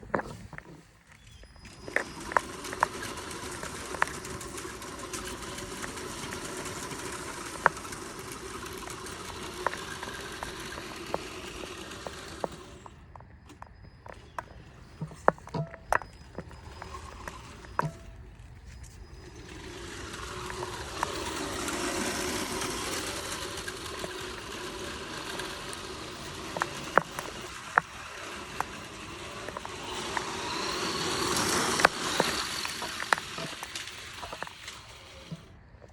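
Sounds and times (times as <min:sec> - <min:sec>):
toy truck electric motor running: 0:01.6 - 0:35.9.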